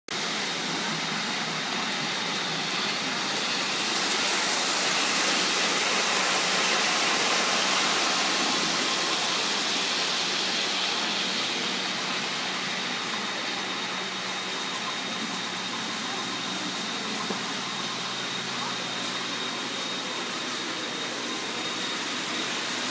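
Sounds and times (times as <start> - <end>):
model trains running on track: 0.1 - 22.9.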